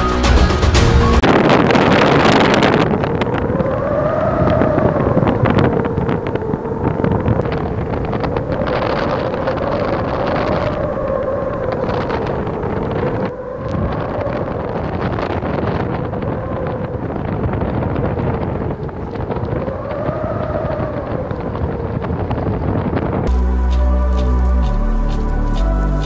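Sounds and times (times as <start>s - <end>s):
strong wind on microphone: 0.0s - 26.0s
wavering whistling tone: 0.0s - 26.0s.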